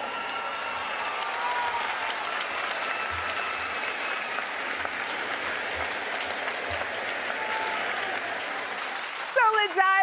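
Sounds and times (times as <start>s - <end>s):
large audience applauding: 0.0s - 10.0s.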